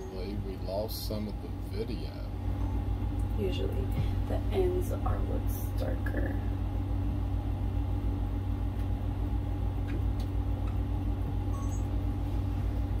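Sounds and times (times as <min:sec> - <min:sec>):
constant hum: 0:00.0 - 0:13.0
machine rumbling with fast pulse: 0:00.0 - 0:13.0.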